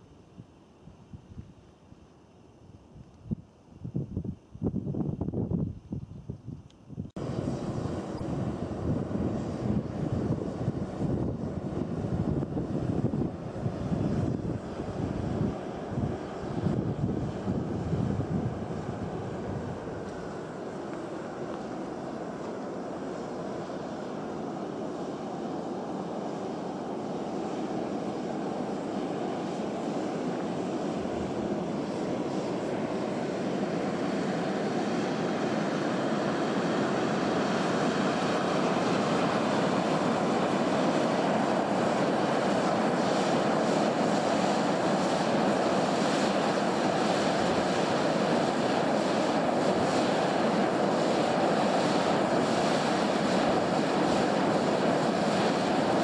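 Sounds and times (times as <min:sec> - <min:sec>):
fumarole venting steam: 0:07.2 - 0:56.0.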